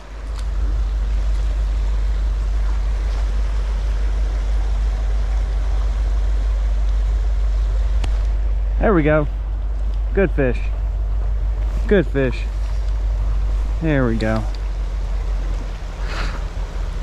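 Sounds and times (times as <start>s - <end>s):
mountain stream rushing: 0.0s - 17.0s
wind rumble on microphone: 0.0s - 17.0s.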